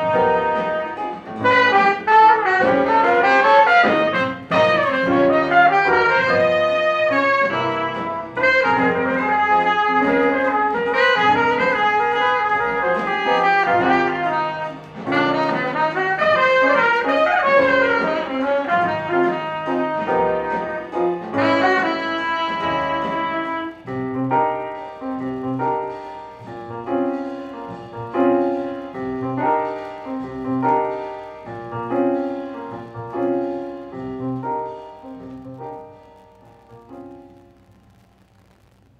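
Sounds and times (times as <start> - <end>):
saxophone and trumpet playing jazz: 0.0 - 36.3
piano chords: 0.0 - 37.8.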